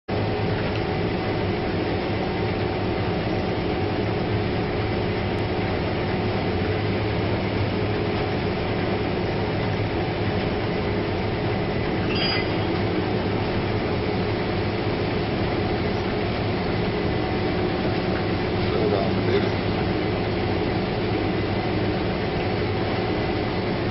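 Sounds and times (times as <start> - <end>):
combine harvester drone: 0.1 - 23.9
steady mechanical whines: 0.2 - 23.9.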